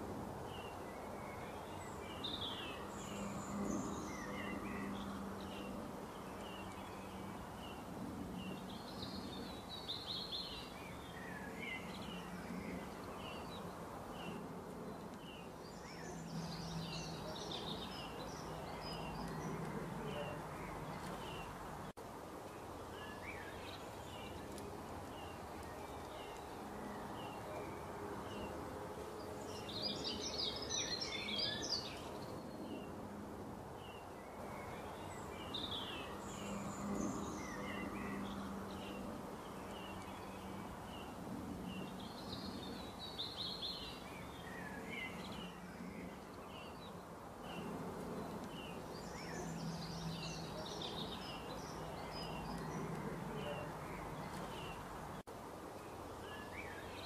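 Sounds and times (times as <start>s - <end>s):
birds twittering: 0.0s - 21.9s, 22.5s - 33.1s, 33.8s - 57.0s.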